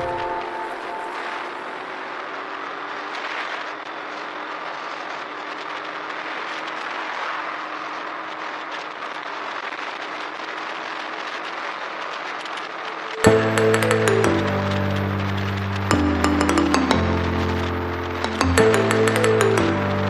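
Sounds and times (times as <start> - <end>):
wind and motorcycle road noise: 0.0 - 20.0.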